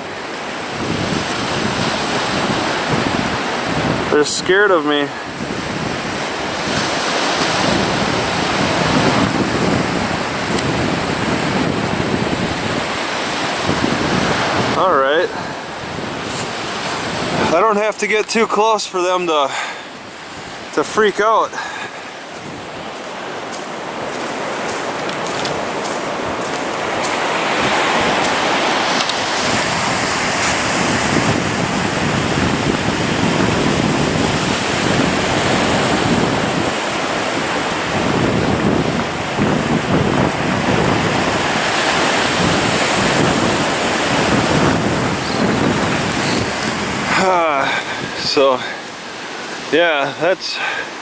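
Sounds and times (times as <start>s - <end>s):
wind on microphone: 0.0s - 18.3s, 21.6s - 51.0s
ocean surf rushing onto beach: 0.0s - 51.0s.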